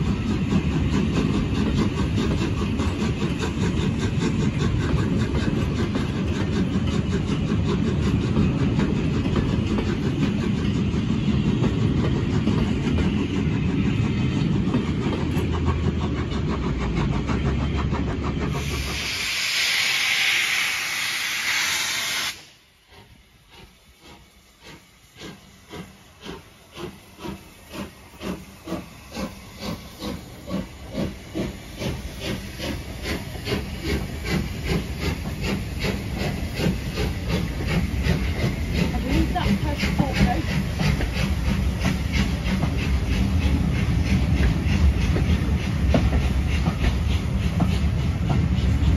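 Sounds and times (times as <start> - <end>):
loud hiss of steam: 0.0 - 14.7, 18.4 - 48.9
rolling train coaches rumbling: 0.0 - 48.9
steam engine exhaust beats: 0.0 - 48.9.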